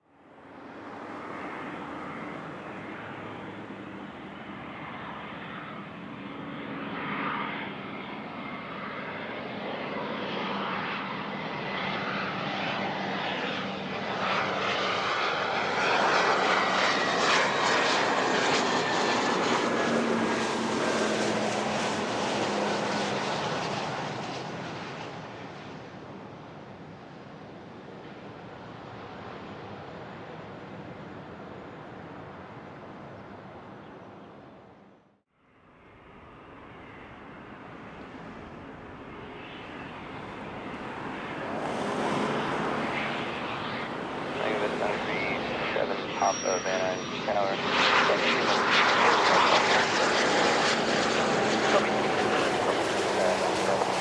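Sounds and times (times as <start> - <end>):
jet engine passing: 0.2 - 34.8, 35.6 - 54.0.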